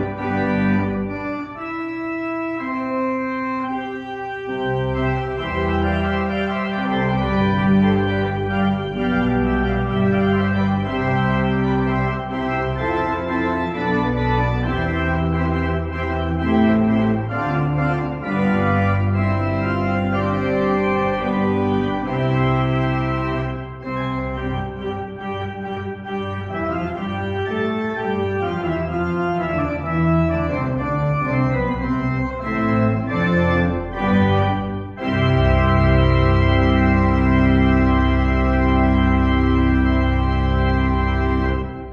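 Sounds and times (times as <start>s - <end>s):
church pipe organ playing: 0.0s - 41.9s.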